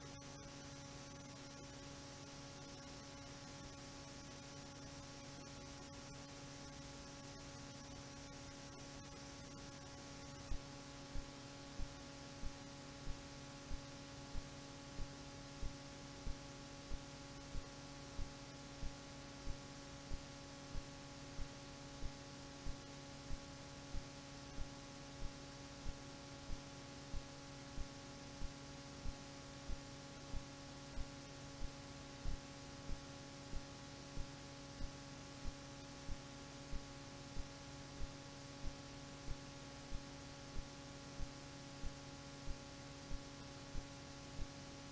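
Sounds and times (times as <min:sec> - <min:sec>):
faint hiss: 0:00.0 - 0:44.9
steady hum of held tones: 0:00.0 - 0:44.9.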